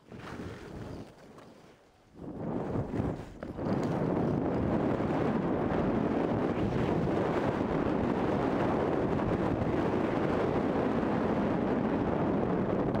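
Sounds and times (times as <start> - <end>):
wind buffeting microphone: 2.1 - 13.0.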